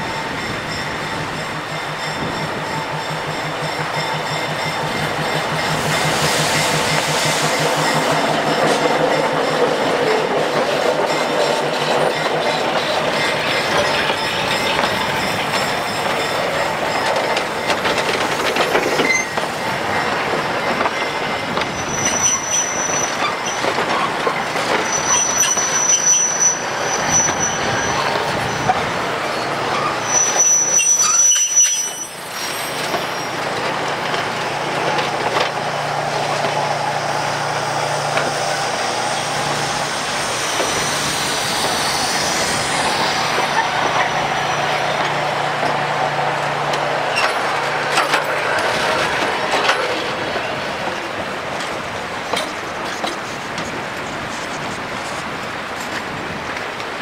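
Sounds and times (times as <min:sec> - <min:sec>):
high wheel squeal: 0:00.0 - 0:45.8, 0:47.0 - 0:50.8
steel wheels clattering on rails: 0:00.0 - 0:57.0.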